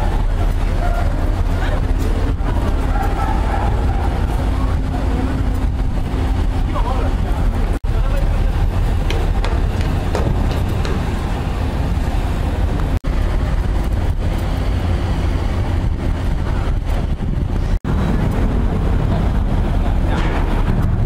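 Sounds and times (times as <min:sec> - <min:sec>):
ferry engines rumbling: 0:00.0 - 0:21.0
harbour noise hiss: 0:00.0 - 0:21.0.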